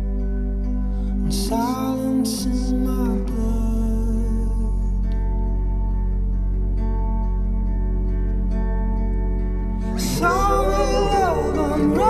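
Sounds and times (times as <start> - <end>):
sustained music chord: 0.0 - 12.0.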